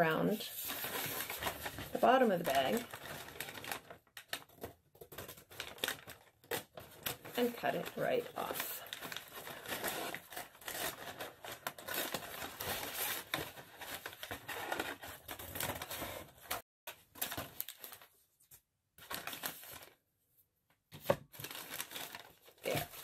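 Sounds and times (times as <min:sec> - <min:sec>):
paper crinkling and rustling: 0:00.4 - 0:20.0, 0:20.9 - 0:23.0.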